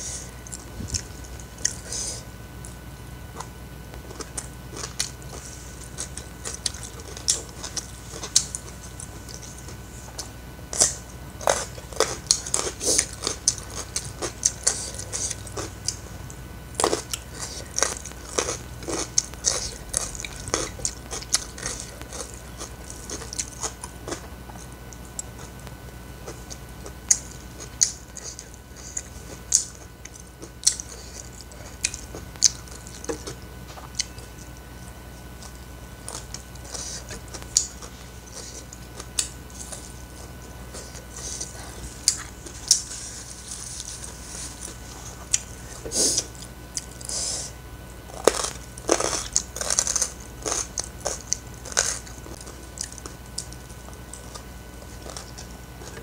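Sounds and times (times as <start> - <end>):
person chewing with wet smacking: 0.1 - 2.0, 2.6 - 47.2, 47.8 - 56.0.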